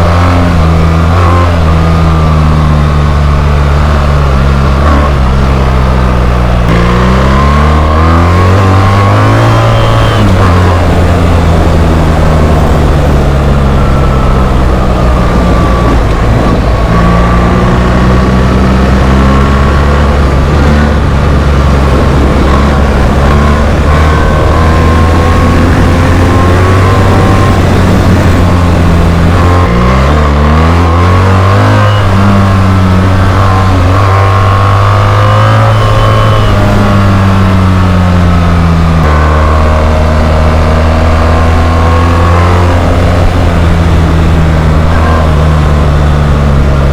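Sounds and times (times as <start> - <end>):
motorcycle engine running loud: 0.0 - 46.9.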